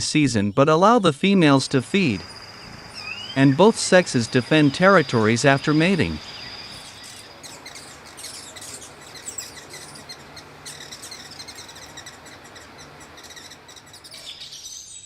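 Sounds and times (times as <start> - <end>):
faint low hum: 0.0 - 14.6
outdoor noise hiss: 0.0 - 15.0
bird chips and twitters: 1.8 - 15.0.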